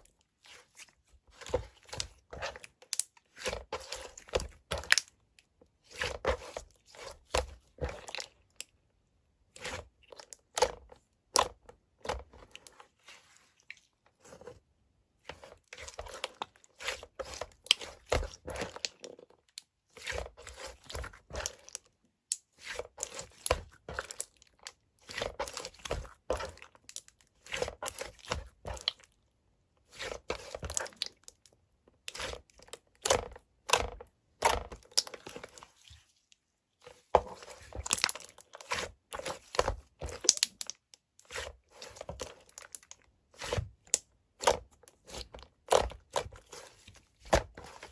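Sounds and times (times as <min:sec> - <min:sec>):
crunching and crinkling: 0:00.0 - 0:08.7, 0:15.2 - 0:21.9, 0:22.6 - 0:29.2, 0:29.8 - 0:47.9.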